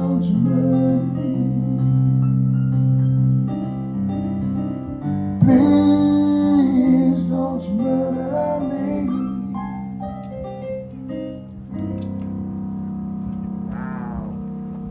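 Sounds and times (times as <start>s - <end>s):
keyboard chords: 0.0s - 14.9s.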